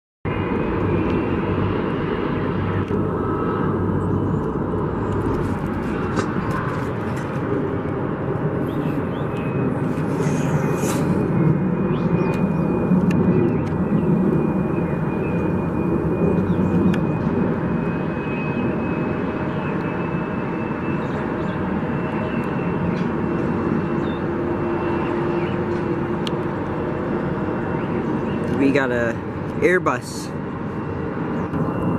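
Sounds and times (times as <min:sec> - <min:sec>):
jet engines running: 0:00.3 - 0:31.9.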